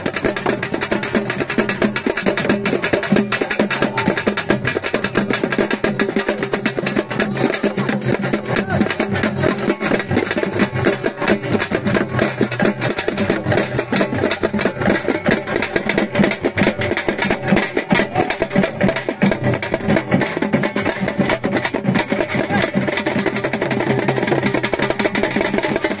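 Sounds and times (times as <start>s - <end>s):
fast dense drumming: 0.0s - 26.0s.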